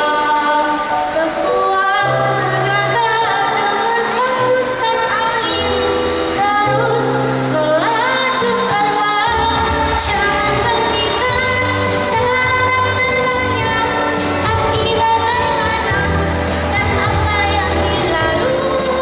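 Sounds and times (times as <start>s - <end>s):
girl singing pop song: 0.0s - 19.0s.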